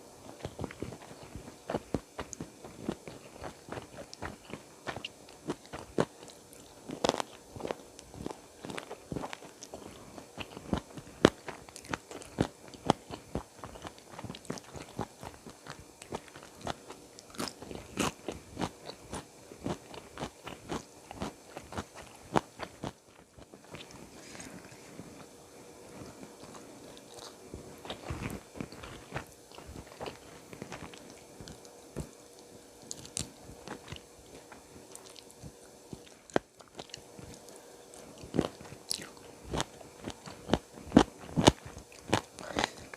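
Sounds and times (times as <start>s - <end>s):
crunching and chewing: 0.2s - 42.9s.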